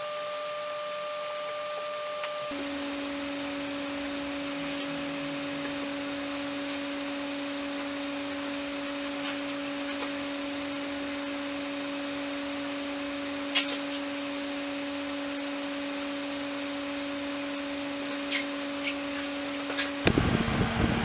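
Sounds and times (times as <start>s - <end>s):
two-pitch hum: 1.6s - 21.0s.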